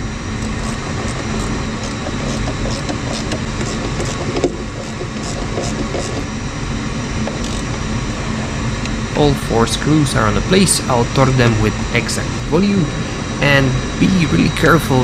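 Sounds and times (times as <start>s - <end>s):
mechanical background hum: 0.0s - 15.0s.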